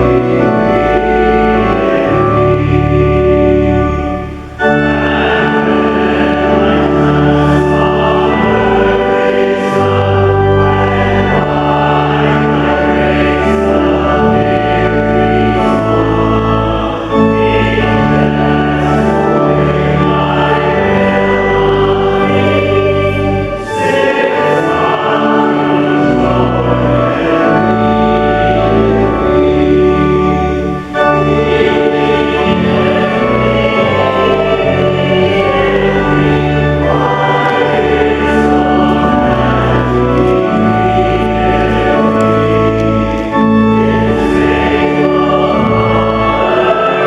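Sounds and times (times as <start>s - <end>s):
congregation singing a hymn: 0.0s - 47.0s
organ accompaniment: 0.0s - 47.0s.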